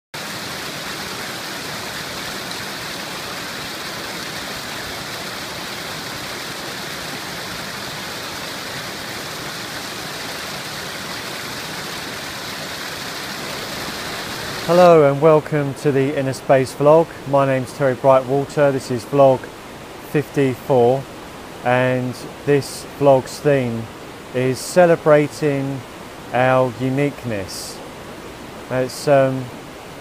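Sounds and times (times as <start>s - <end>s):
river water rushing over rocks: 0.2s - 30.0s.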